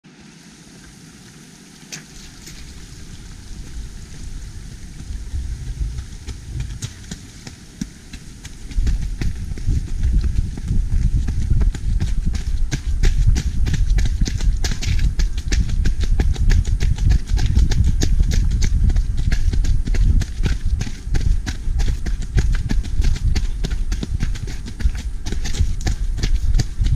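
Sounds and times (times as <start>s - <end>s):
low microphone rumble: 2.5s - 26.9s
running footsteps on gravel: 2.5s - 26.9s.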